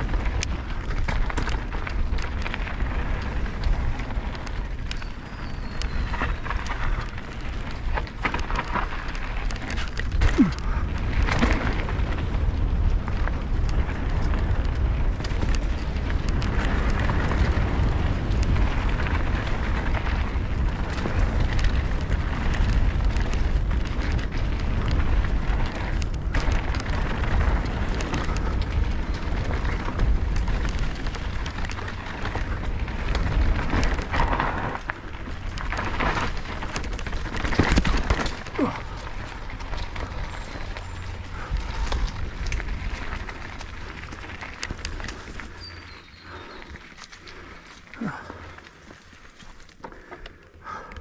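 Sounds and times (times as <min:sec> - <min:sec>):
wind buffeting microphone: 0:00.0 - 0:48.9
bike clattering over bumps: 0:00.0 - 0:51.0
tyres on dirt and stones: 0:00.0 - 0:51.0.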